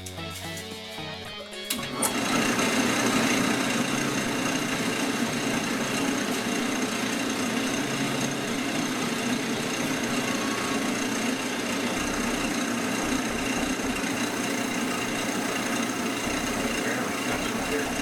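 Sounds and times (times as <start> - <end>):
wood lathe motor humming: 1.7 - 18.0.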